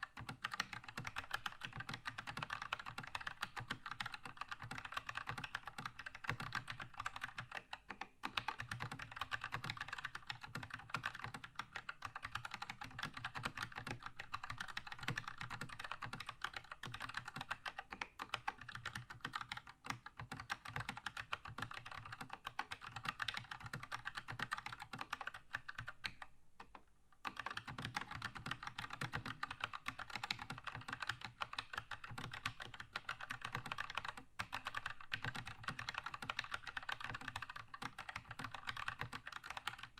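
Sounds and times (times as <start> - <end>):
fast mechanical keyboard typing: 0.0 - 26.3, 27.2 - 39.9.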